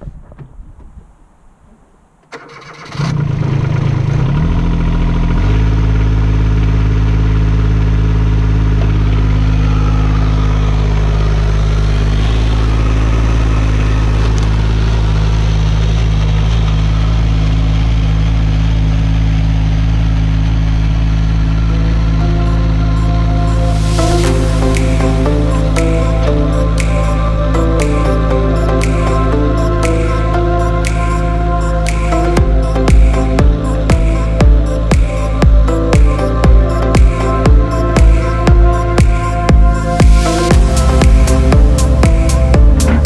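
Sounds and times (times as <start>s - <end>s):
excavator diesel engine running: 2.3s - 43.0s.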